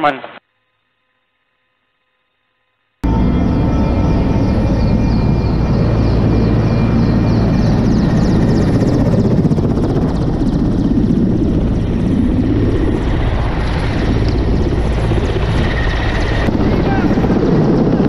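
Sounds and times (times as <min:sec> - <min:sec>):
helicopter hovering: 0:03.0 - 0:18.0.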